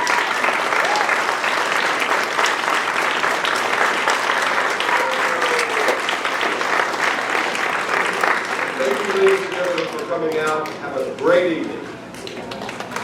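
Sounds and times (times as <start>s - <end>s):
audience applauding: 0.0s - 10.8s, 12.3s - 13.0s.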